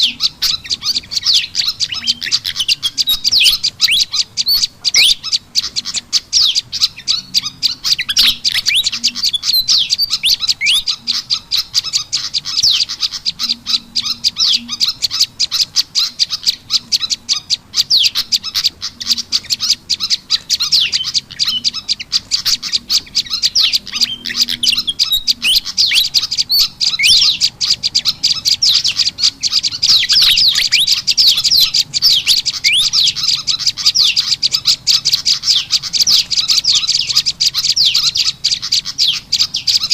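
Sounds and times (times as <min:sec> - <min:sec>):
songbirds chirping rapidly: 0:00.0 - 0:39.9.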